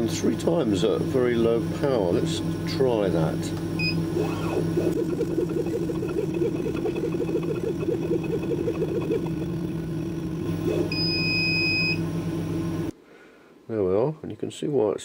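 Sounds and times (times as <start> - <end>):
laser cutter motors humming: 0.0 - 12.9.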